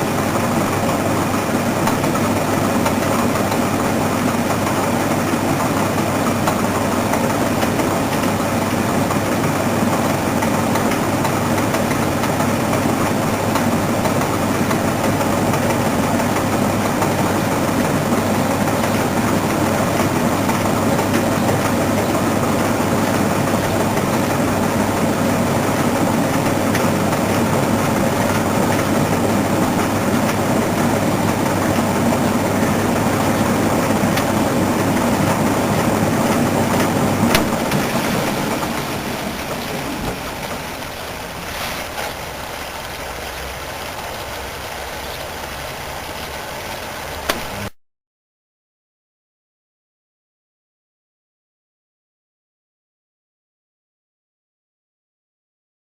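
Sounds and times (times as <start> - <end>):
washing machine running: 0.0 - 47.8.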